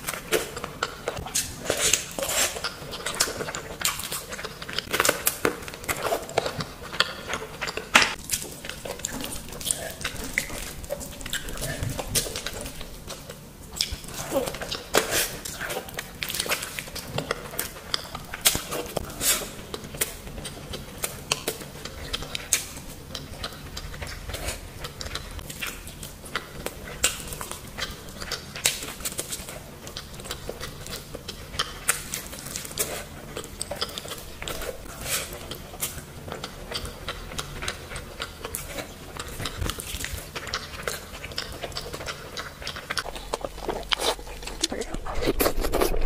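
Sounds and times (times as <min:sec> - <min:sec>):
wet chewing and lip smacks: 0:00.1 - 0:46.0.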